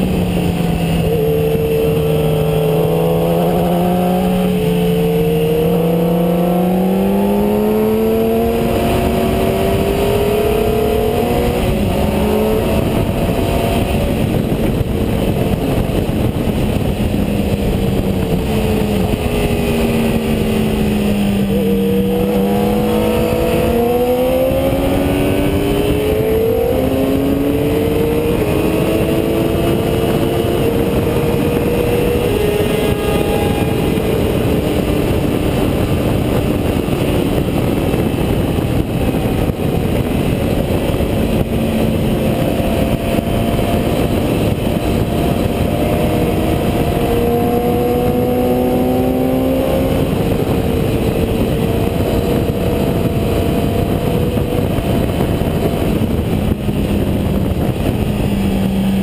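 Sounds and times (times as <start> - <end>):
motorcycle engine: 0.0 - 59.0
wind noise: 0.0 - 59.0.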